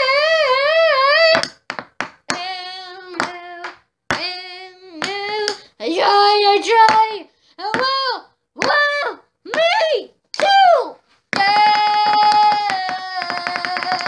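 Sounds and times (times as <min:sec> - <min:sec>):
high-pitched voice singing: 0:00.0 - 0:01.5, 0:02.3 - 0:14.0.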